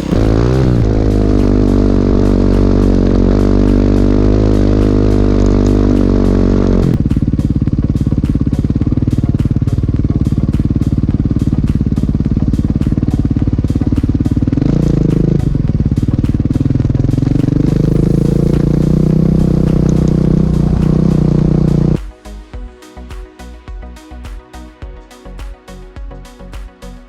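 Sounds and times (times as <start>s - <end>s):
dirt bike engine at low revs: 0.0s - 22.0s.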